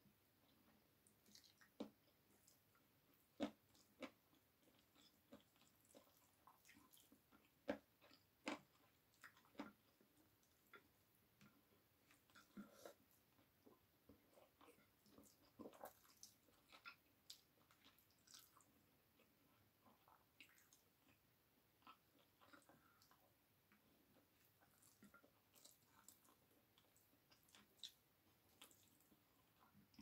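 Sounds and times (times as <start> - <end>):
person chewing food: 0.4 - 30.0.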